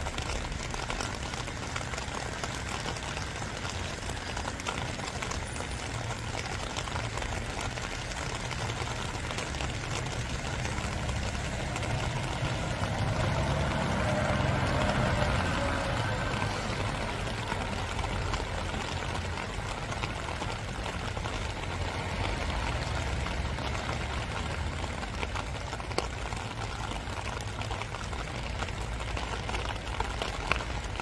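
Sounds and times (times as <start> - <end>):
low engine rumble: 0.0 - 31.0
raindrop ticks: 0.0 - 31.0
steady rain falling: 0.0 - 31.0.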